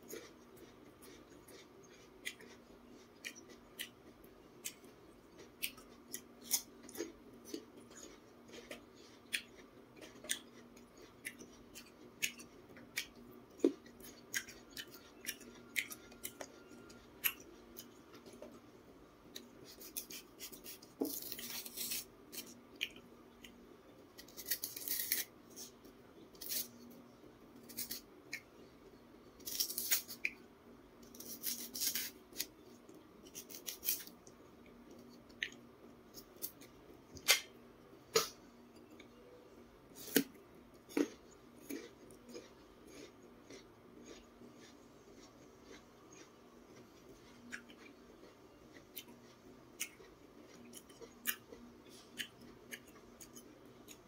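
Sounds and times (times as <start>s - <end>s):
crunchy chewing: 0.0s - 18.7s, 19.3s - 28.7s, 29.4s - 30.4s, 31.0s - 37.5s, 40.0s - 54.0s.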